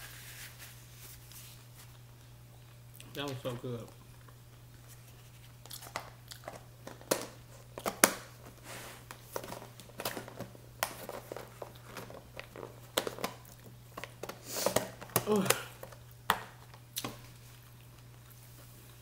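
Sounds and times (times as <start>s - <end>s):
low steady hum: 0.0s - 19.0s
food chewing and crunching: 1.6s - 19.0s.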